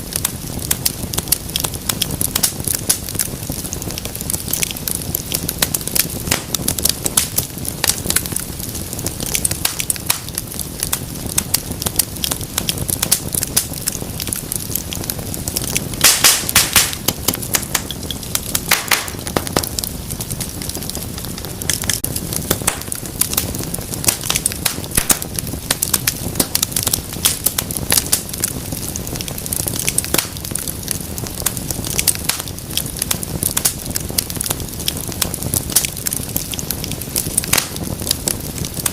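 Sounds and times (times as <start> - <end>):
low rumble of flame: 0.0 - 38.9
wood fire crackling and popping: 0.0 - 38.9.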